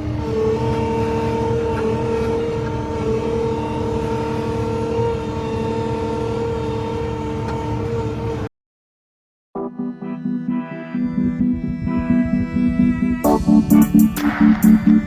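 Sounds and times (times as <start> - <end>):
loader engine rumble with whine: 0.0 - 8.5, 11.1 - 15.0.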